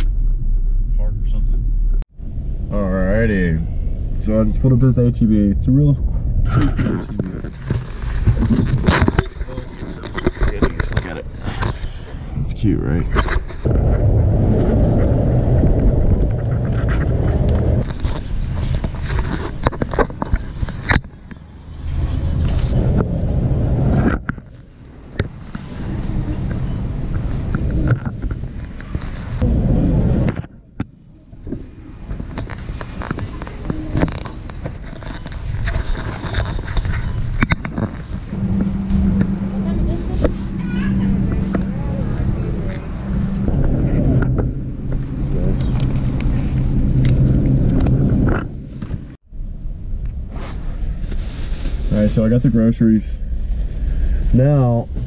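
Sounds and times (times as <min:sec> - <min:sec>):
motor vehicle rumbling: 0:00.0 - 0:55.0.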